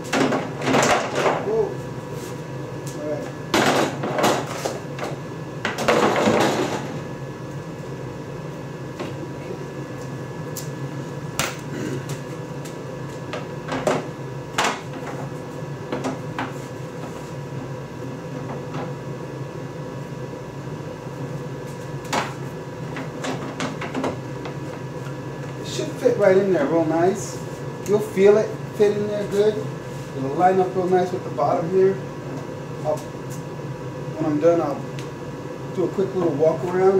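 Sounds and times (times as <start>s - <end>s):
steady background hum: 0.0s - 36.9s.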